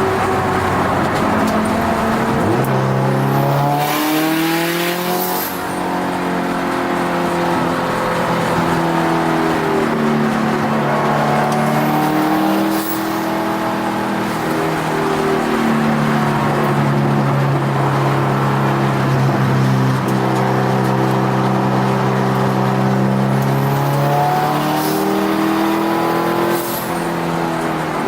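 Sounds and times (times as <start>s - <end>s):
car engine revving inside cabin: 0.0s - 28.0s.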